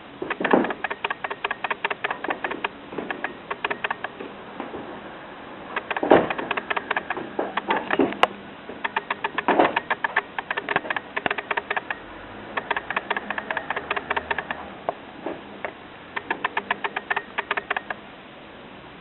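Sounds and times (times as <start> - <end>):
cat batting electric fan clicks: 0.0 - 4.3, 5.7 - 15.0, 15.6 - 18.1.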